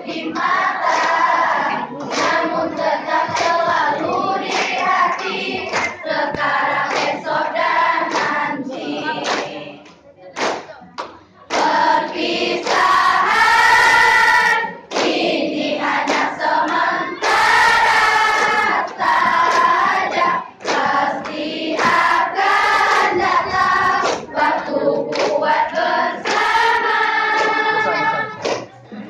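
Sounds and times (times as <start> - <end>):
girls singing together: 0.0 - 10.7, 11.3 - 29.0.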